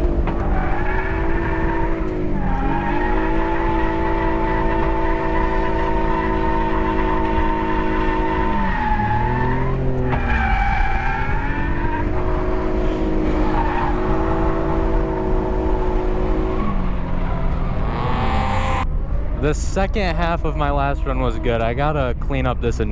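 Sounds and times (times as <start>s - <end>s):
car engine at high revs: 0.0s - 22.9s.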